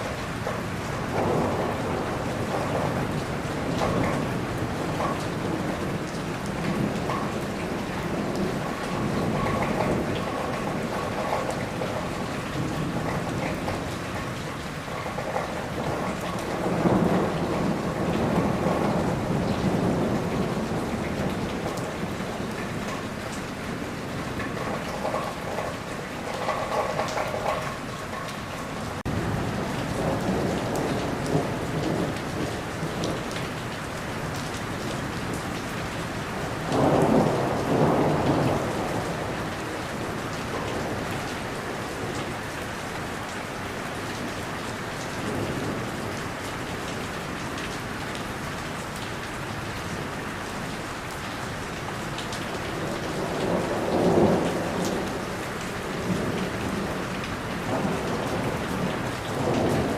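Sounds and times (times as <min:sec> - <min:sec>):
thunder rumbling: 0:00.0 - 0:28.0, 0:28.7 - 0:44.4, 0:51.8 - 0:59.9
heavy rain: 0:00.0 - 0:59.9.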